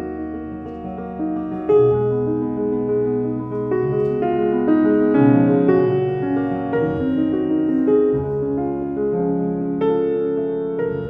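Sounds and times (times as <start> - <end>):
grand piano playing slowly: 0.0 - 11.0.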